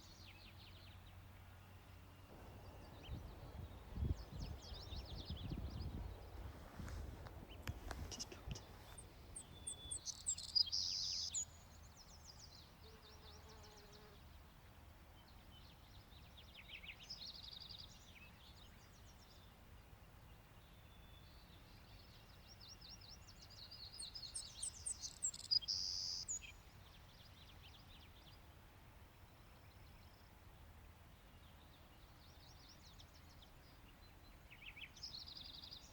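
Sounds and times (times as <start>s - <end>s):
songbird singing with buzzy trill: 0.0s - 6.5s, 7.4s - 14.4s, 15.2s - 28.4s, 31.2s - 35.9s.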